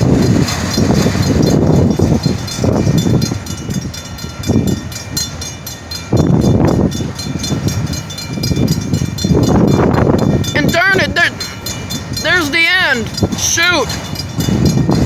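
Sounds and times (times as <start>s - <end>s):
fast high ringing: 0.0s - 15.0s
train wheels rumbling on rail: 0.0s - 15.0s.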